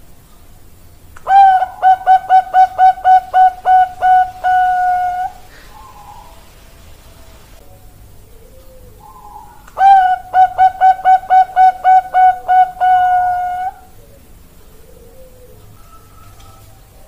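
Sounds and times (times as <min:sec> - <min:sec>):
dove cooing song: 0:01.2 - 0:17.0
faint dove coos: 0:01.2 - 0:17.0.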